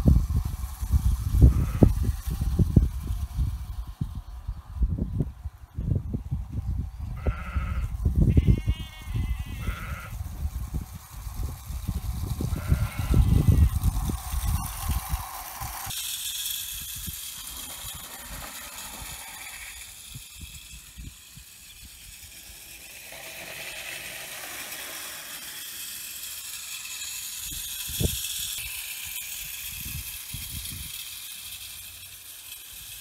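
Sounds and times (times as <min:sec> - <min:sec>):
clockwork motor whirring: 0:00.0 - 0:05.0, 0:08.0 - 0:33.0
toy train wheels rattling on rails: 0:00.0 - 0:05.6, 0:06.3 - 0:33.0.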